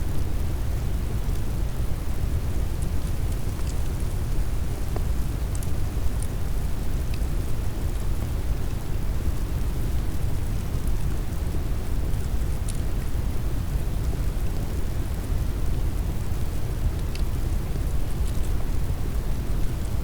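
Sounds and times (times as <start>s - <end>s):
wood fire crackles: 0.2s - 20.0s.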